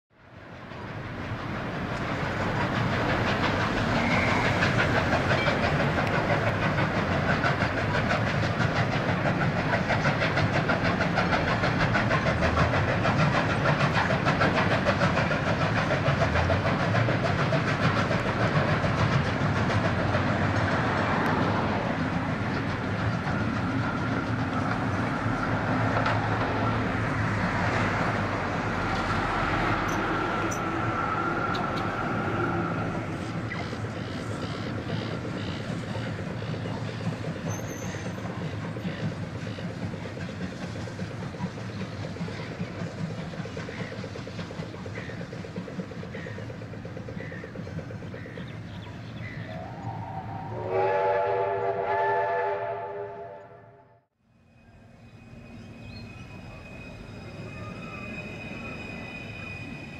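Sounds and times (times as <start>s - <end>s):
tram rumbling on rails: 0.1s - 59.9s.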